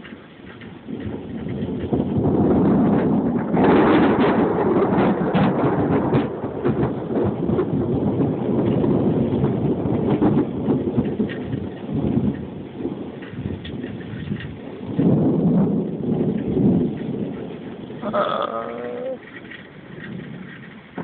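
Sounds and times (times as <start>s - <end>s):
heavy rain: 0.0s - 21.0s
thunder rumbling: 0.0s - 21.0s.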